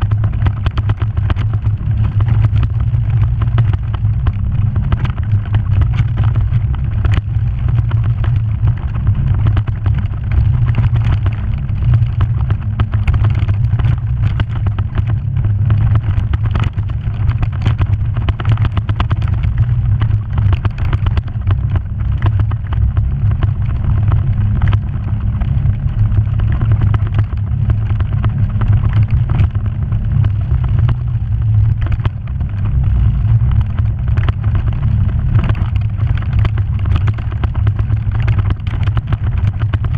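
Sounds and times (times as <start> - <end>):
off-road vehicle engine rumble: 0.0 - 39.9
vehicle rattling on bumpy ground: 0.0 - 39.9.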